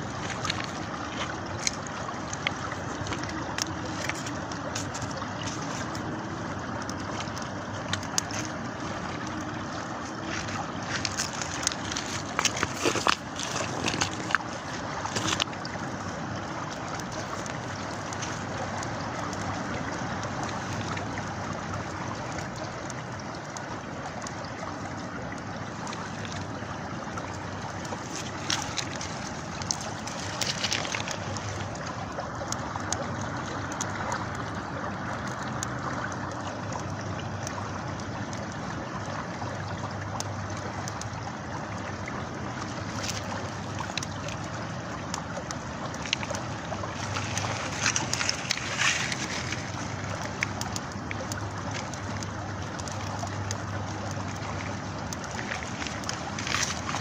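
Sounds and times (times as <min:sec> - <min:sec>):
campfire crackling: 0:00.0 - 0:57.0
river water flowing: 0:00.0 - 0:57.0.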